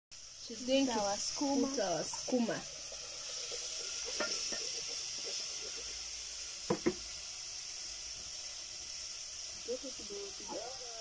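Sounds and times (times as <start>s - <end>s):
tomatoes sizzling in a pan: 0.1s - 11.0s.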